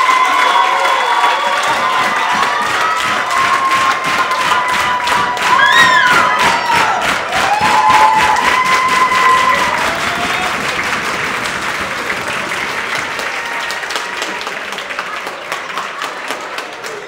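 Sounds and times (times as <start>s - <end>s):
audience applauding: 0.0s - 17.0s
cheering shouts: 0.0s - 17.0s.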